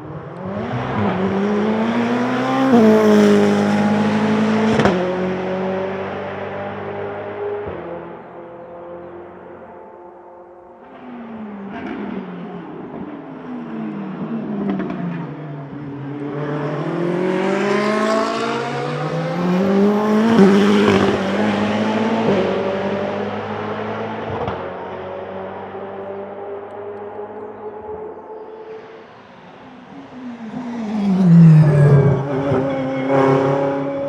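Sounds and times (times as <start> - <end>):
race car engine accelerating: 0.0 - 8.2, 11.4 - 34.0.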